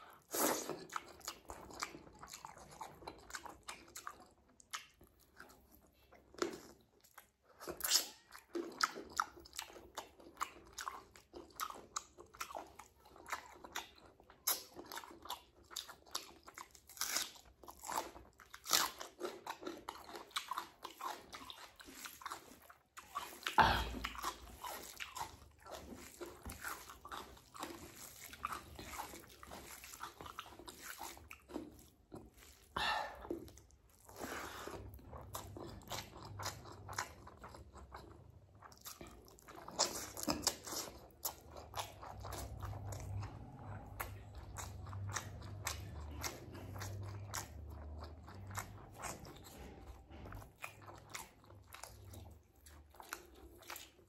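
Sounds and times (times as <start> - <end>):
chewing and smacking: 0.0 - 54.0.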